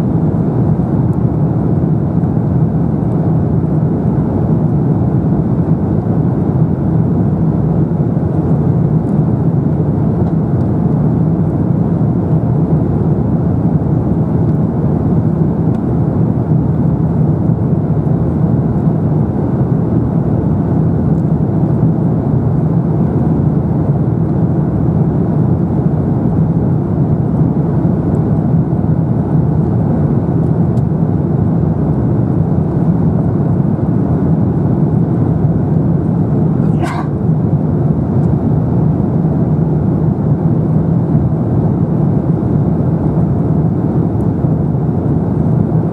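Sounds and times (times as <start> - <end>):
airplane cabin noise: 0.0 - 45.9.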